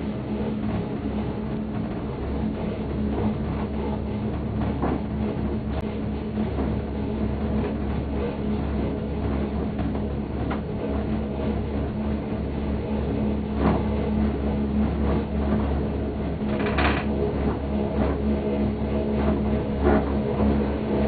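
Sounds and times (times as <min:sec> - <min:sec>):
gondola cabin low hum: 0:00.0 - 0:21.0.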